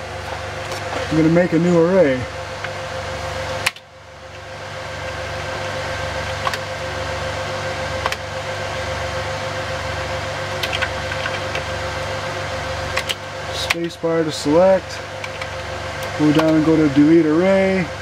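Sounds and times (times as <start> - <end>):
server fans and hard drives humming: 0.0 - 18.0.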